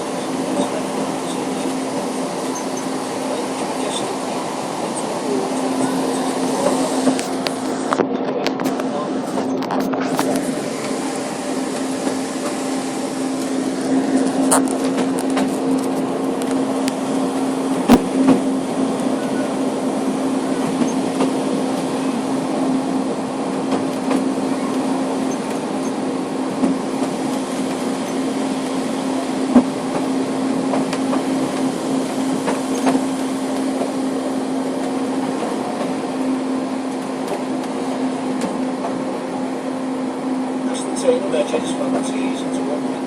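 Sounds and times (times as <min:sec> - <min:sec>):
train running drone: 0:00.0 - 0:43.0.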